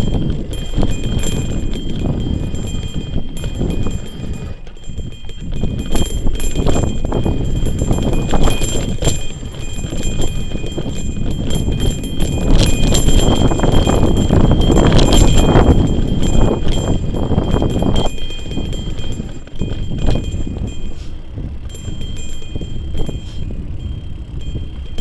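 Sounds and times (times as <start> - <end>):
bicycle rattling over rough trail: 0.0 - 25.0.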